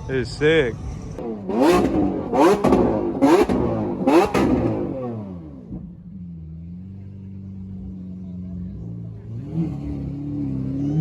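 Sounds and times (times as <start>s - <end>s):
car engine idling: 0.0s - 11.0s
car engine revving: 1.2s - 11.0s.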